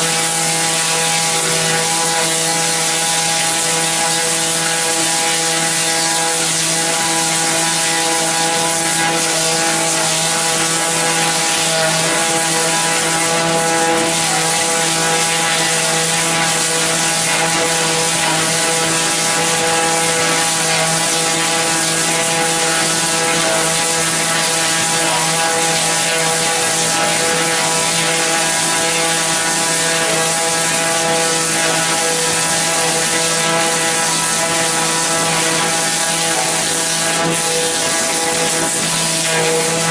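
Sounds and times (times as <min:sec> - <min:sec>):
debarking machine running: 0:00.0 - 0:39.9.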